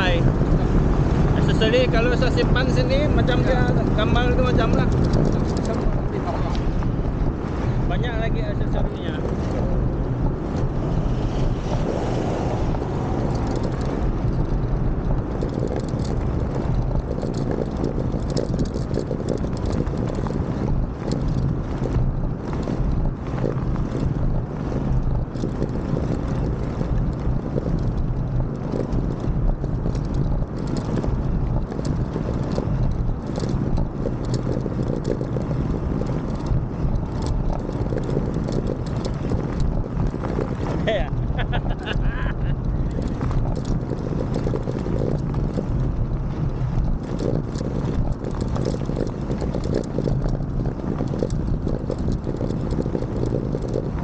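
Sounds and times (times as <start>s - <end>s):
moped engine running: 0.0s - 54.0s
wind buffeting microphone: 0.0s - 54.0s.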